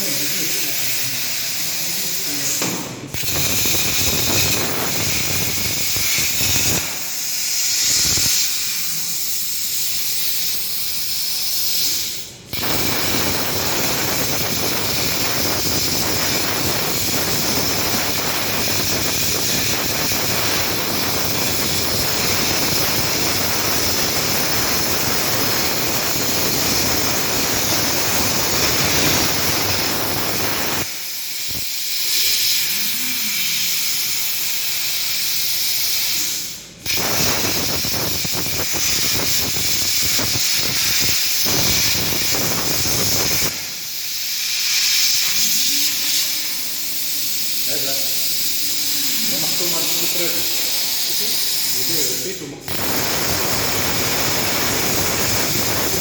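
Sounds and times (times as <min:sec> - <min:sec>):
plasma torch cutting metal: 0:00.0 - 0:56.0.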